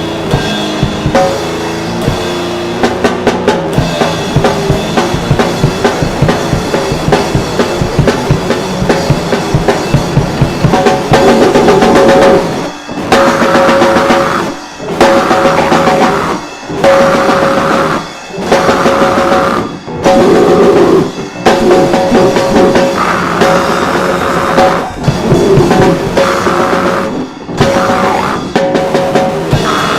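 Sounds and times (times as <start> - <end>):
band playing drums and guitar: 0.0 - 29.9.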